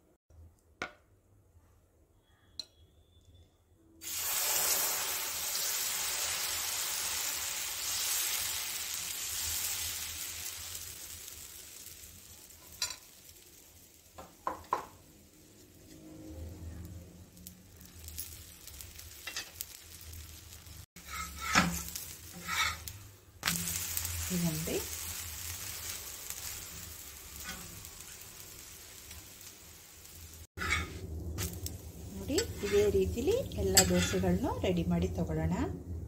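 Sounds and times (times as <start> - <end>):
batter sizzling on hot griddle: 4.0 - 34.7.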